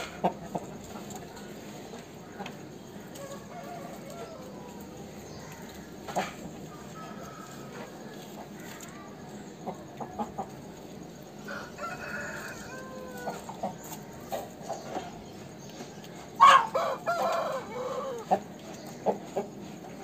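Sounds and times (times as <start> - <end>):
roosters crowing: 0.0 - 9.4, 10.2 - 15.3, 16.1 - 20.0.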